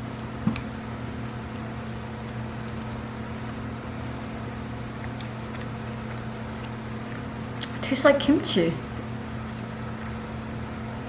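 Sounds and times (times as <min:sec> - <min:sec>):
low background hum with hiss: 0:00.0 - 0:11.0.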